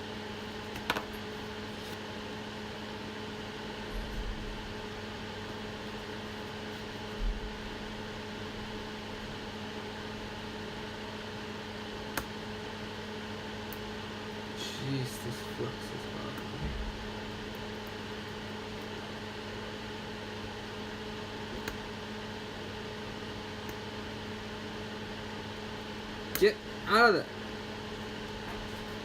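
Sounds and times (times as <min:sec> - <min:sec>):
electrical hum: 0:00.0 - 0:29.0
fan noise: 0:00.0 - 0:29.0.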